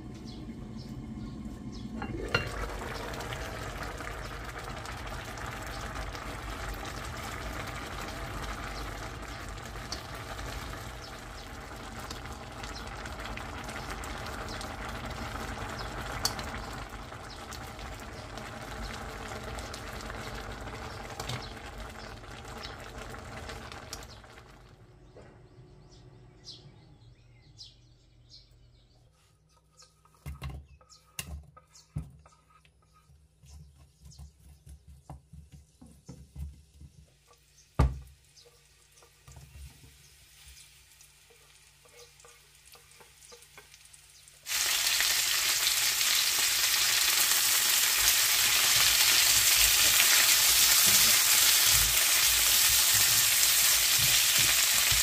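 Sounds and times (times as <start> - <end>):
stew bubbling in a pan: 0.0 - 24.8, 35.6 - 55.0.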